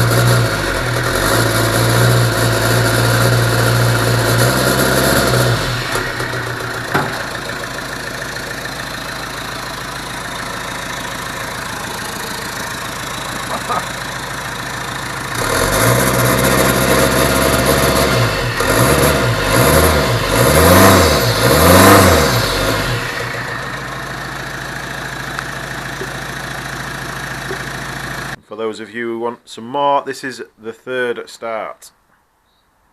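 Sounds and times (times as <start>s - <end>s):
diesel engine idling and revving: 0.0s - 28.4s.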